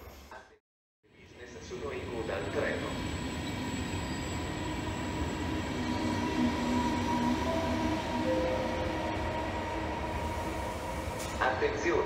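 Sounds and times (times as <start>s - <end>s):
train electric whine: 1.6s - 12.0s.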